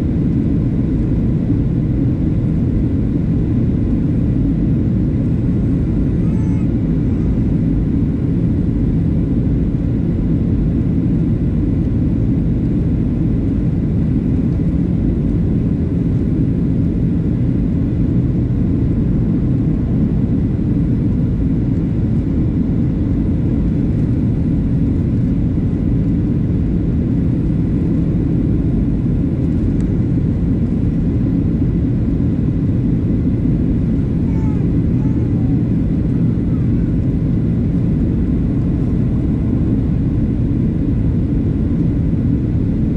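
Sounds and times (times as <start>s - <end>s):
aircraft cabin engine roar: 0.0s - 42.9s.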